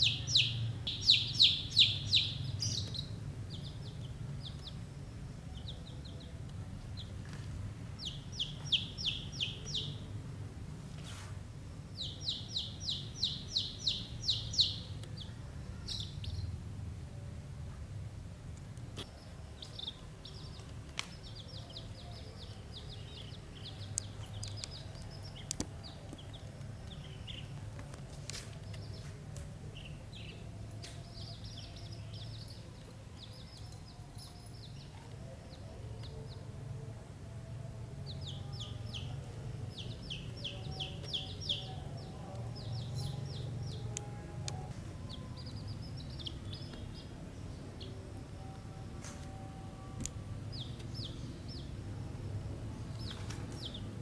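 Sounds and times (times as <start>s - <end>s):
chicks peeping: 0.0s - 10.1s, 12.0s - 16.6s, 19.0s - 36.5s, 38.0s - 49.6s, 50.4s - 51.9s, 52.8s - 54.0s
low steady hum: 0.0s - 54.0s.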